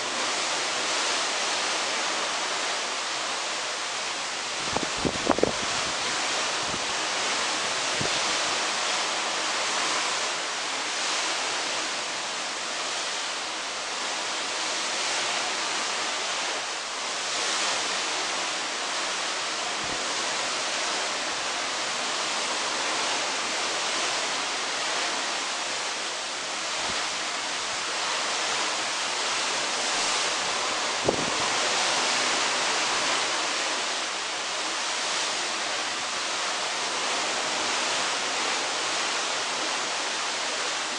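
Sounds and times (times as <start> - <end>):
sea wash: 0.0 - 40.9
wind: 0.0 - 40.9.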